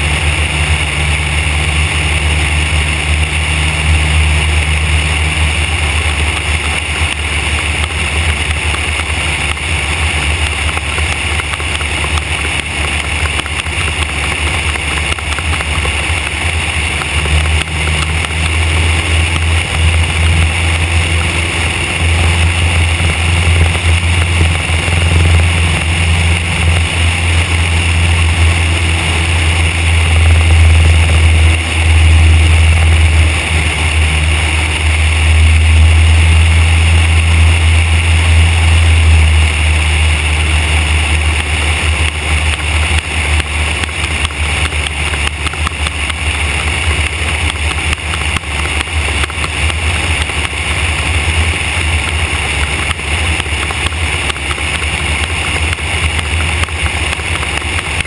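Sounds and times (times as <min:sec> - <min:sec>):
light aircraft engine droning: 0:00.0 - 0:58.0
wind rushing over microphone: 0:00.0 - 0:58.0.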